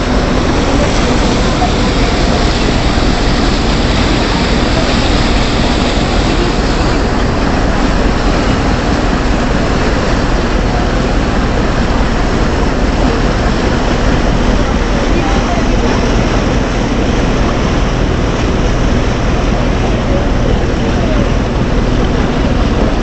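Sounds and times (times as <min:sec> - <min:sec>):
boat engine running: 0:00.0 - 0:23.0
loud rushing noise: 0:00.0 - 0:23.0.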